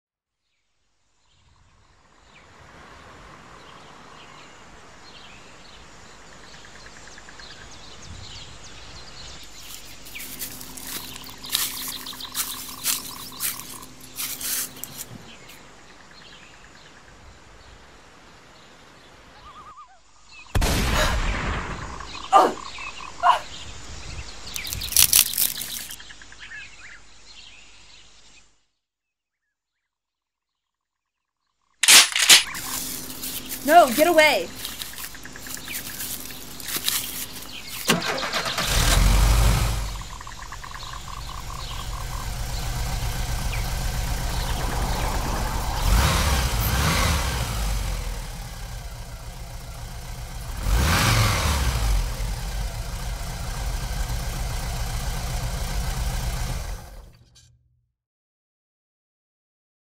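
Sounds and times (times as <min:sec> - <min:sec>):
birds chirping: 0:01.3 - 0:20.5, 0:21.7 - 0:28.5, 0:31.8 - 0:57.0.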